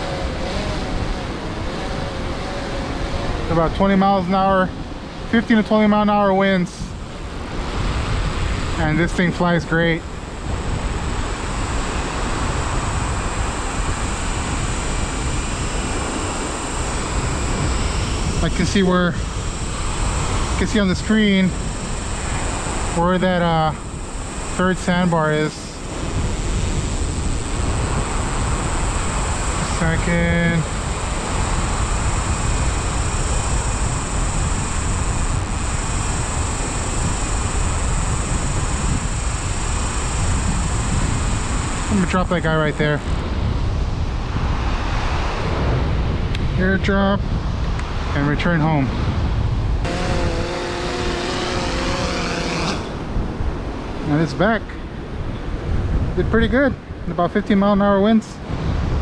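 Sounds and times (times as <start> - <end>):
wind buffeting microphone: 0.0 - 5.9, 6.6 - 59.0.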